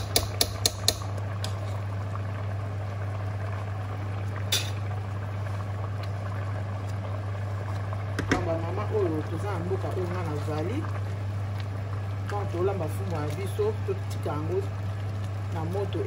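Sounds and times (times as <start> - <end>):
stew bubbling at a rolling boil: 0.0 - 16.0.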